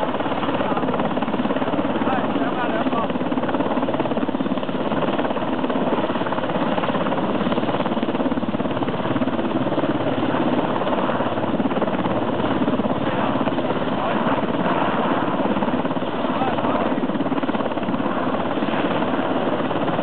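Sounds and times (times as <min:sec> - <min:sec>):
helicopter rotor chop: 0:00.0 - 0:20.0.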